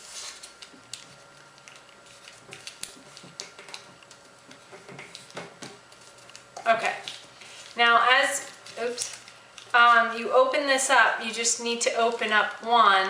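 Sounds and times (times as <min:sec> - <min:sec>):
paper crinkling as it is folded: 0:00.0 - 0:07.8, 0:08.4 - 0:10.1, 0:11.8 - 0:12.7.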